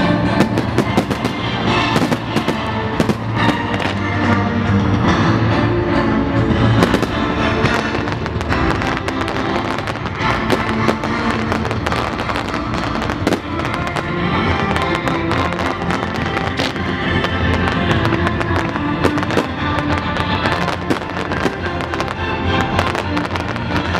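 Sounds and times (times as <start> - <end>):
fireworks bursting and crackling: 0.0 - 5.0, 6.5 - 23.9
music playing: 0.0 - 23.9.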